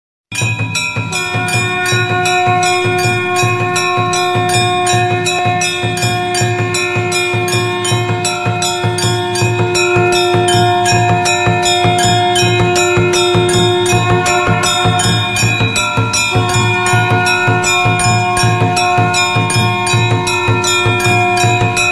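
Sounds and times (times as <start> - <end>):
temple bells ringing: 0.3 - 21.9
conch blowing held tone: 0.7 - 21.9.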